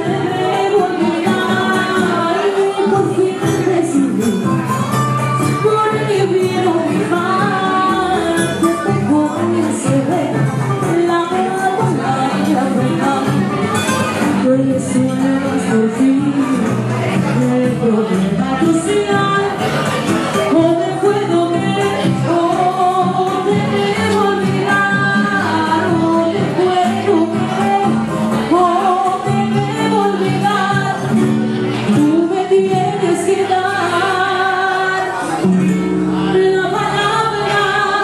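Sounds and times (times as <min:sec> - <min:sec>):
instrumental accompaniment: 0:00.0 - 0:38.0
woman singing into microphone: 0:00.0 - 0:38.0.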